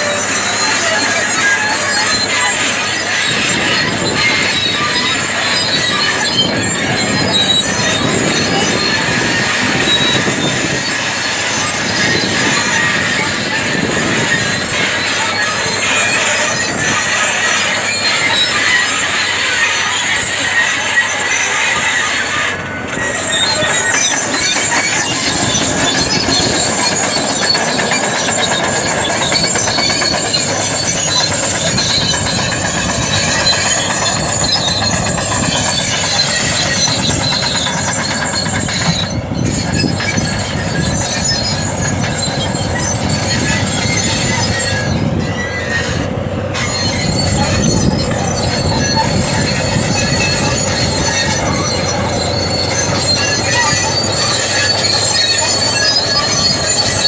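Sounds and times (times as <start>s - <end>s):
diesel engine under load: 0.0s - 57.0s
steel tracks squealing: 0.0s - 57.0s.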